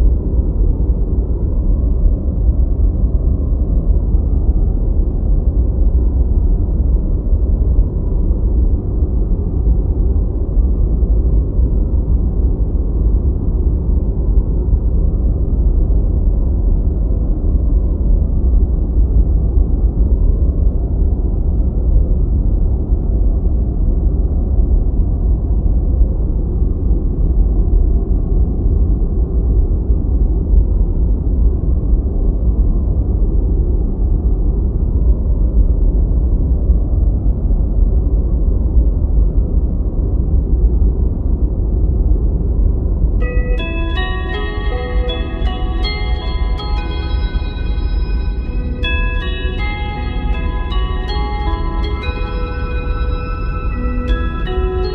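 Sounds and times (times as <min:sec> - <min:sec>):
deep white noise: 0:00.0 - 0:54.9.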